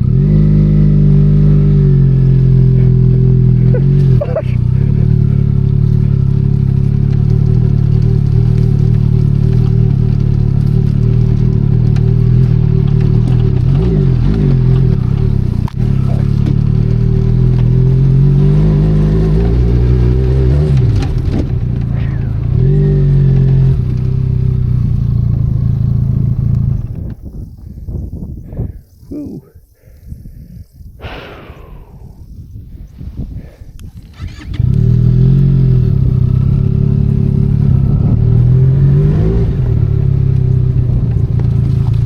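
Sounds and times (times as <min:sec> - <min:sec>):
motorcycle engine revving: 0:00.0 - 0:27.2, 0:31.0 - 0:32.4, 0:33.4 - 0:42.0.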